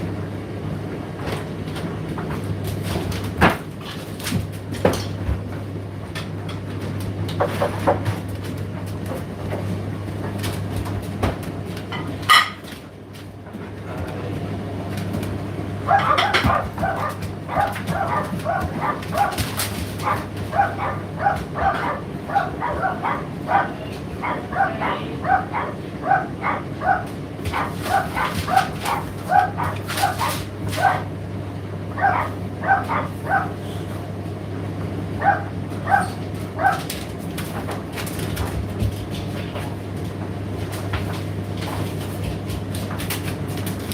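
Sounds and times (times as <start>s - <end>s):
tumble dryer humming: 0.0s - 43.9s.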